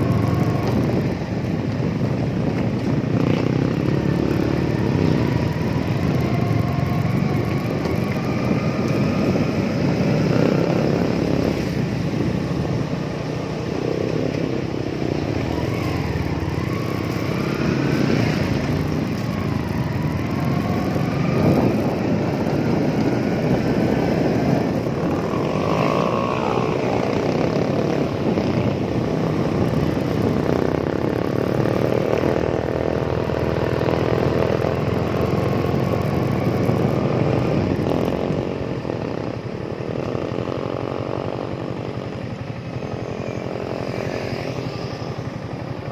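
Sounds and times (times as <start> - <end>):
motorcycle engine: 0.0 - 45.9
wind roaring over microphone: 0.0 - 45.9.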